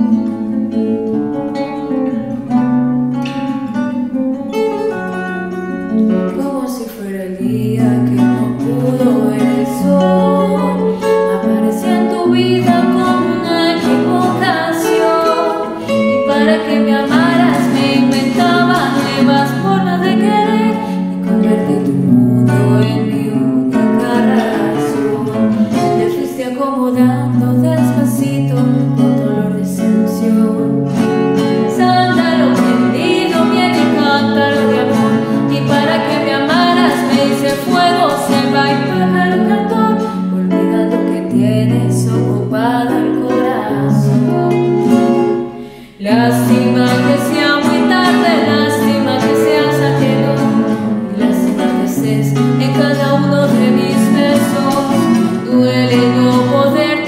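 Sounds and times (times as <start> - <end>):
woman singing: 0.0 - 2.6, 5.7 - 57.0
classical guitar: 0.0 - 57.0.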